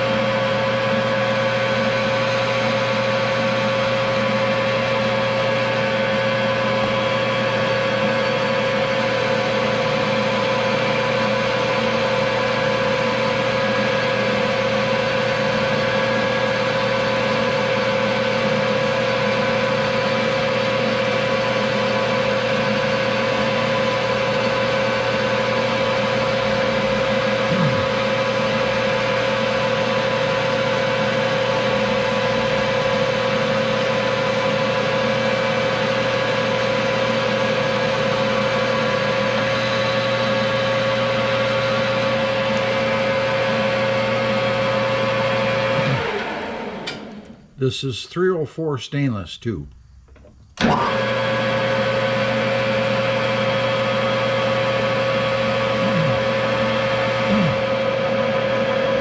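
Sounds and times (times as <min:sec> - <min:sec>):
metal lathe humming with high tone: 0:00.0 - 0:47.3, 0:50.6 - 0:59.0.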